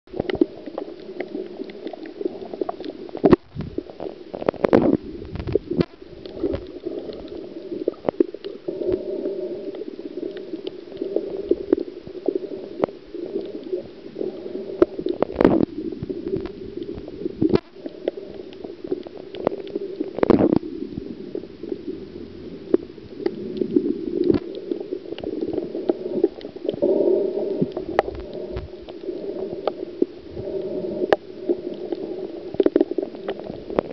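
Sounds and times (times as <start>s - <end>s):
underwater rushing hum: 0.1s - 33.9s.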